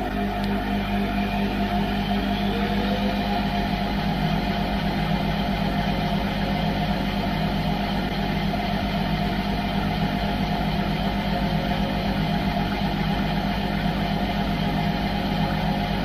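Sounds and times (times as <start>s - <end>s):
washing machine drum spinning: 0.0s - 16.0s.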